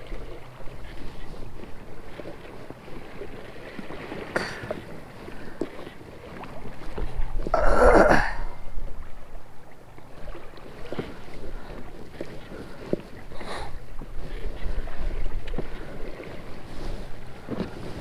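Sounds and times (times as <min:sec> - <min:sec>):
water slapping against kayak hull: 0:00.0 - 0:07.6, 0:08.7 - 0:18.0
water rush: 0:00.0 - 0:18.0.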